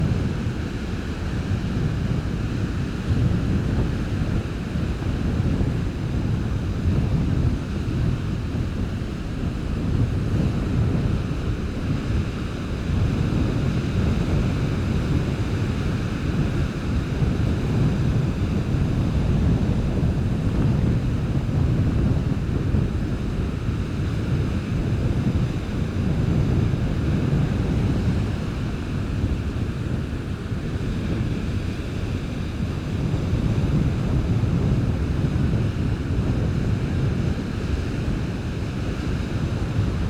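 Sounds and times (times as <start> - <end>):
wind buffeting microphone: 0.0 - 40.0
surf breaking on beach: 1.2 - 40.0.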